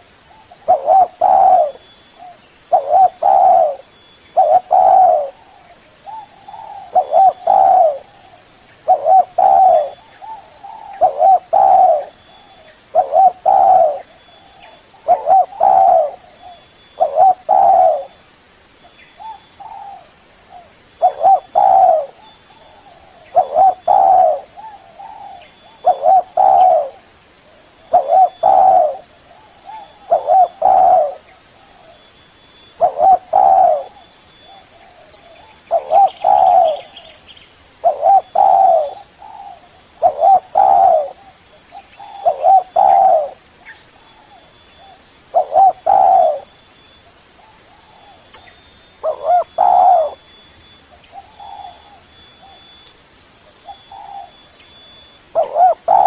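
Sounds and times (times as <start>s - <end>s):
dove cooing: 0.0s - 18.2s, 19.2s - 37.2s, 37.8s - 46.6s, 47.4s - 52.8s, 53.5s - 56.0s.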